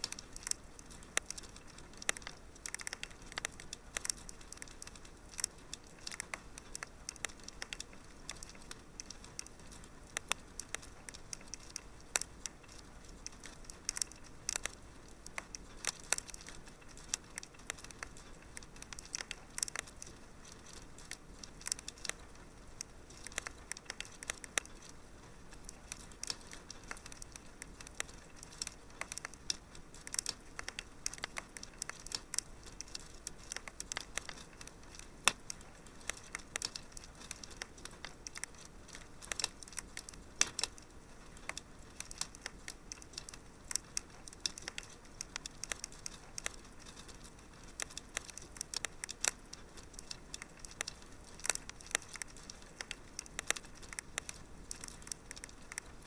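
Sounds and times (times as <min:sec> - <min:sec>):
faint steady hiss: 0:00.0 - 0:56.0
wood fire crackling: 0:00.0 - 0:56.0.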